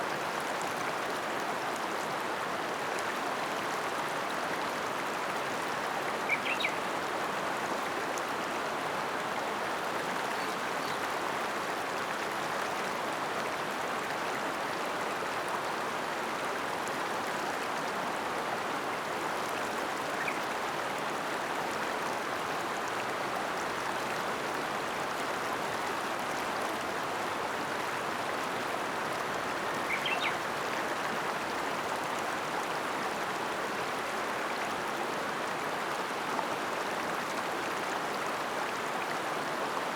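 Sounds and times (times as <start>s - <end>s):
river flowing: 0.1s - 39.9s.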